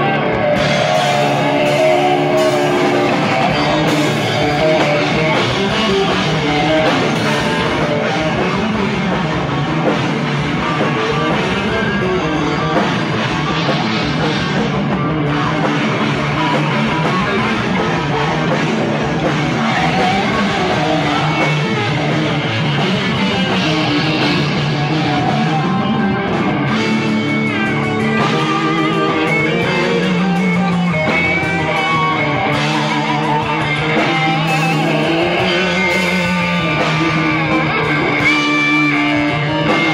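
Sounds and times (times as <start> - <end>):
drum kit: 0.0 - 39.9
electric guitar: 0.0 - 39.9
live rock band playing: 0.0 - 39.9.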